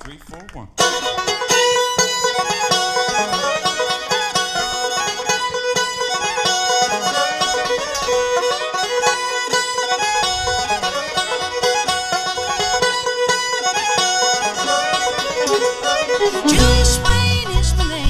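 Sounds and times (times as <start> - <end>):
bluegrass string band playing: 0.8 - 18.0
fiddle melody: 0.8 - 18.0.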